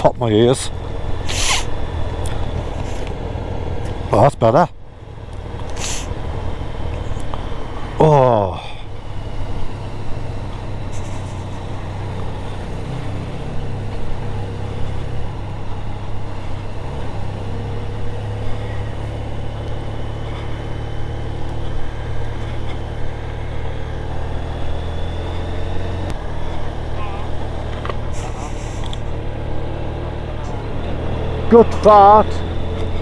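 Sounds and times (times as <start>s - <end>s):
motorcycle engine droning: 0.0s - 33.0s.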